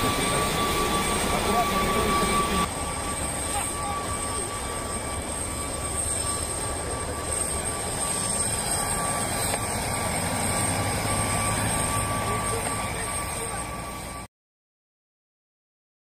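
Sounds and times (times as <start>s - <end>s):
idling engine whine and hum: 0.0s - 14.2s.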